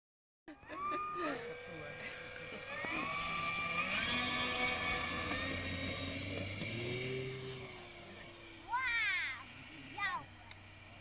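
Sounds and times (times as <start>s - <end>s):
electric motor whine: 0.5s - 11.0s.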